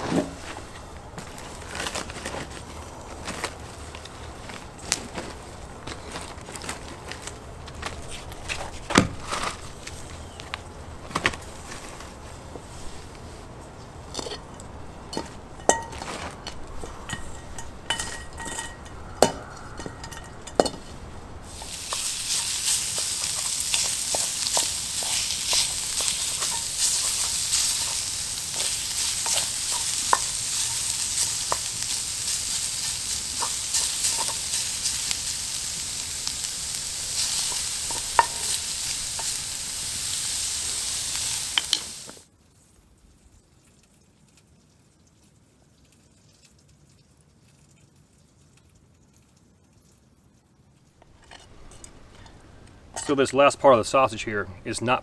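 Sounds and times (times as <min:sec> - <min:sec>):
meat sizzling over coals: 0:00.0 - 0:42.3, 0:51.0 - 0:55.0.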